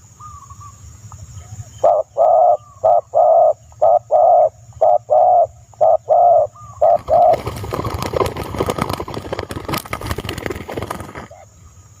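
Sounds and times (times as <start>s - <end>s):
dove cooing: 1.4s - 11.5s.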